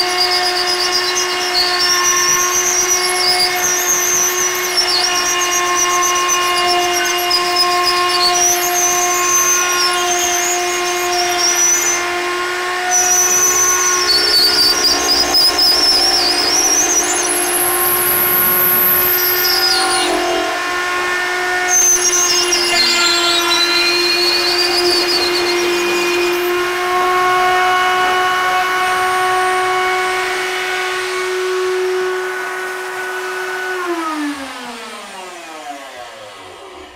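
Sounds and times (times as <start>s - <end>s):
router motor running: 0.0s - 36.9s
wood cutting whine: 0.0s - 36.9s.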